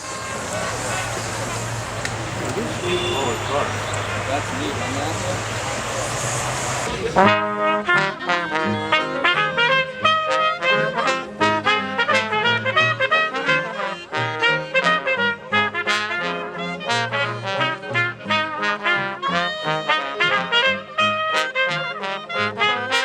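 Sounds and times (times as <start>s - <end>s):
traditional jazz band playing: 0.0s - 23.0s
trombone: 0.0s - 23.0s
trumpet: 0.0s - 23.0s.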